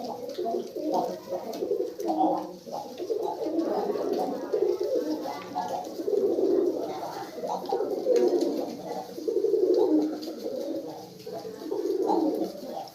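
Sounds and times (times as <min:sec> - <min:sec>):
pigeons cooing: 0:00.0 - 0:12.9.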